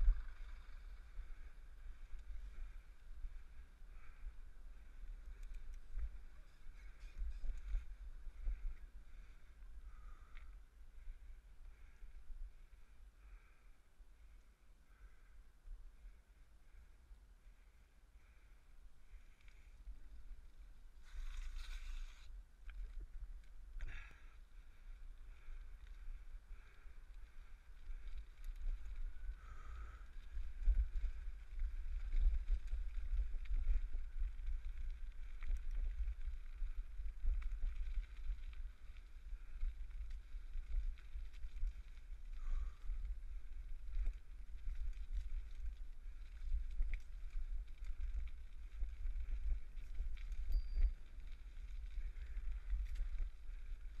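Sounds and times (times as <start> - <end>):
bicycle ticks and rattles: 0.0 - 54.0
wind and tyre rumble: 0.0 - 54.0.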